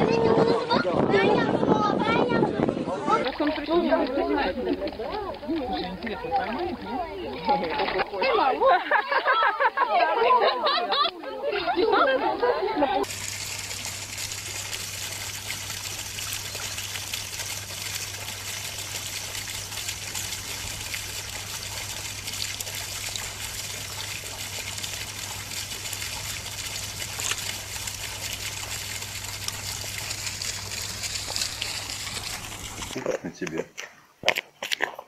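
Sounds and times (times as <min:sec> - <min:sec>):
stream trickling: 0:01.4 - 0:34.9.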